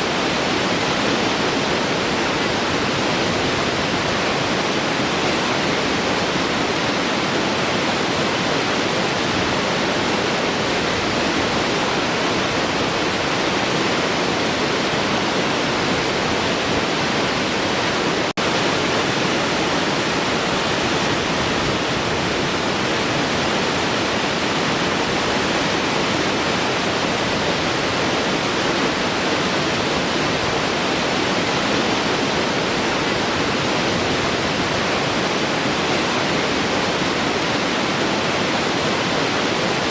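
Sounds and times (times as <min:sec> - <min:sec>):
rush of falling water: 0:00.0 - 0:39.9.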